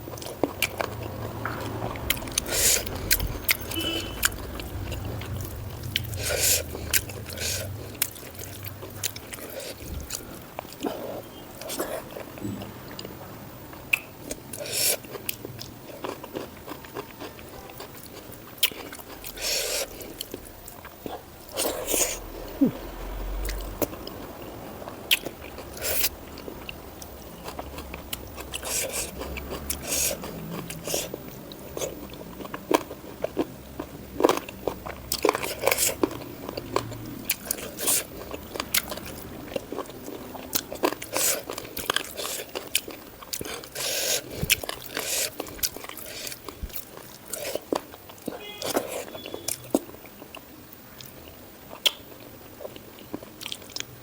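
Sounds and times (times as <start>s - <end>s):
person crunching and chewing: 0.0s - 13.2s, 13.8s - 50.4s, 51.0s - 53.9s.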